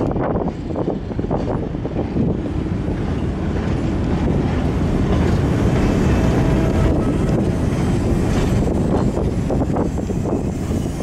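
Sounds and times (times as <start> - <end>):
steel wheels running on rails: 0.0 - 11.0
wind buffeting microphone: 0.0 - 11.0.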